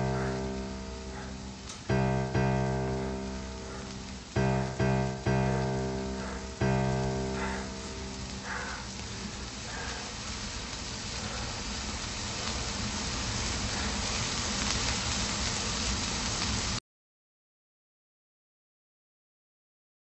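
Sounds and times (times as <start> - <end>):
steady rushing noise: 0.0 - 16.6.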